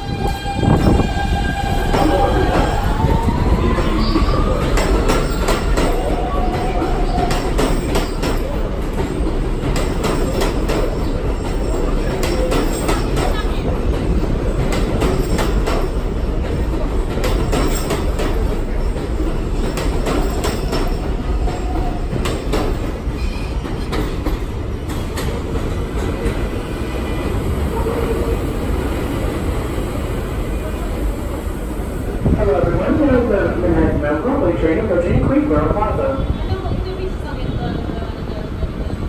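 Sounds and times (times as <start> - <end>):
subway train rumbling: 0.0 - 39.0.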